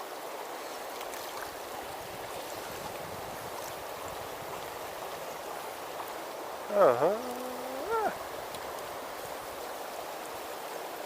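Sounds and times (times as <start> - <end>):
river water flowing over stones: 0.0 - 11.0.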